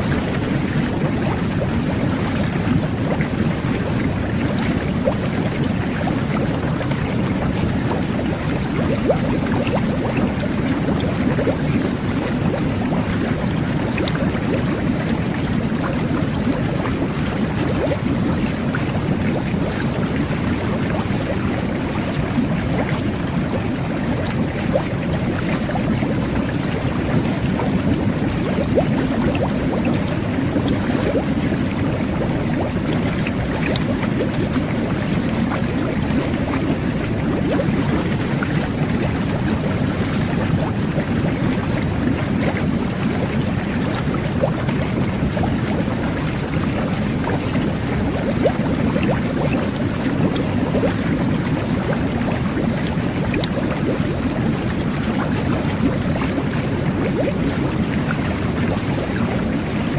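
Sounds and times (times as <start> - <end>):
bubbling pops: 0.0 - 59.9
whirlpool bath jets churning water: 0.0 - 59.9.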